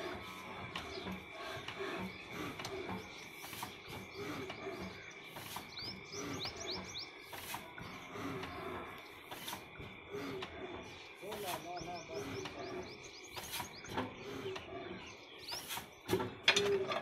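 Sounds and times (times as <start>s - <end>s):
mechanical hum: 0.0s - 17.0s
small bird chirping: 0.3s - 16.2s.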